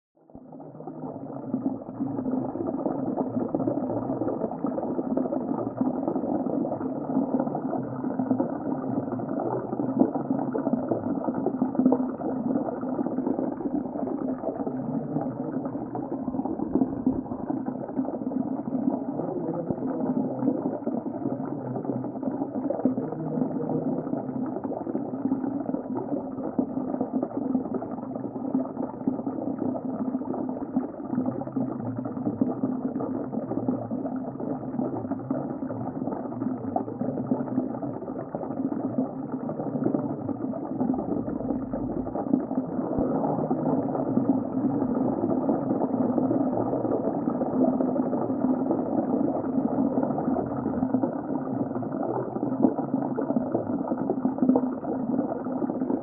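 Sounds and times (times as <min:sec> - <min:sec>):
muffled underwater bubbling: 0:00.2 - 0:56.0.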